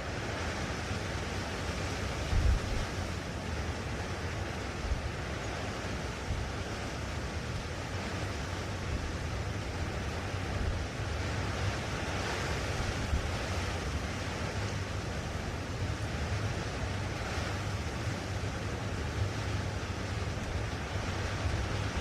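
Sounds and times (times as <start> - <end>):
blustery wind rushing: 0.0 - 22.0.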